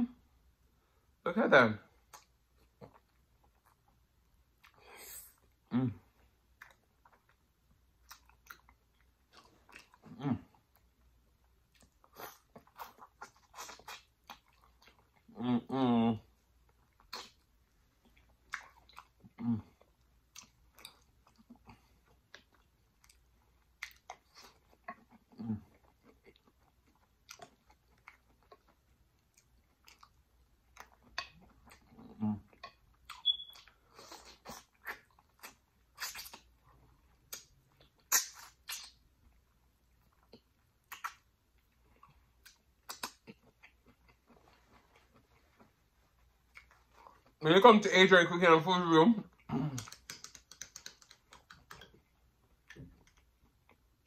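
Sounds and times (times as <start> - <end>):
person chewing with mouth clicks: 2.0 - 47.4, 49.3 - 54.0.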